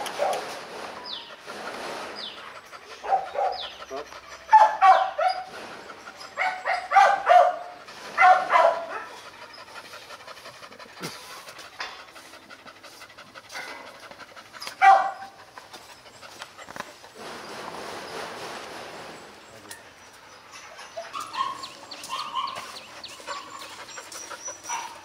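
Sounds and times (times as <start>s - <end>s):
dog panting hard: 0.0s - 17.2s, 19.9s - 25.0s.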